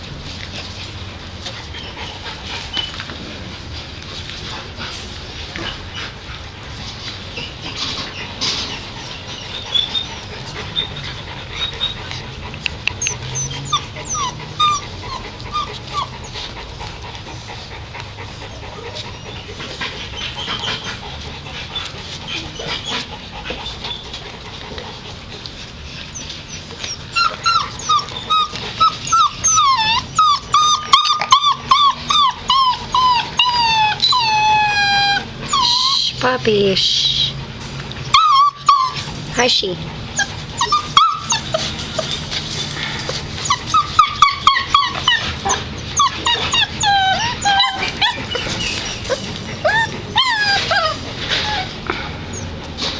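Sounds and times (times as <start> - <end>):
puppies whimpering: 1.4 - 3.2, 5.4 - 52.8.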